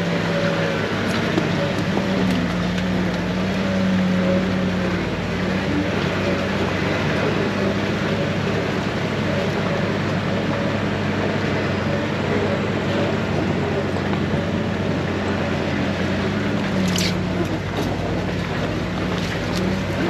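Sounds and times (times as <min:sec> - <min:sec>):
drivetrain and trail noise: 0:00.0 - 0:20.0
off-road vehicle engine running: 0:00.0 - 0:20.0.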